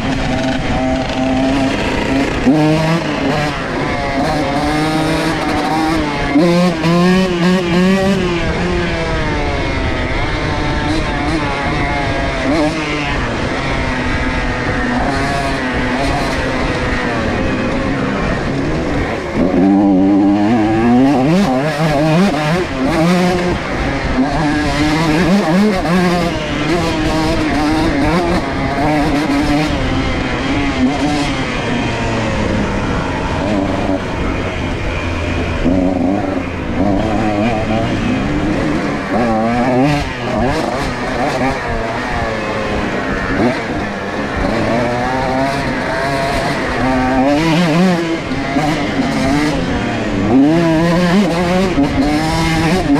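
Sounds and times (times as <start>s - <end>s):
two-stroke dirt bike engine: 0.0s - 52.9s.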